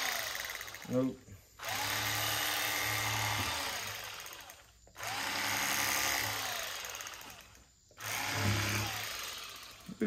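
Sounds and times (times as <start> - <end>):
electric knife running: 0.0 - 10.0.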